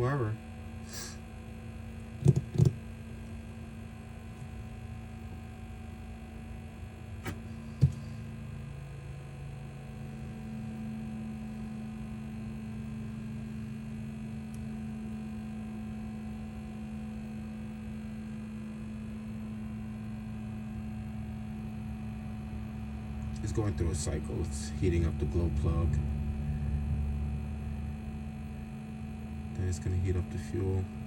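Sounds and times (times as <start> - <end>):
heater fan humming: 0.0 - 31.0.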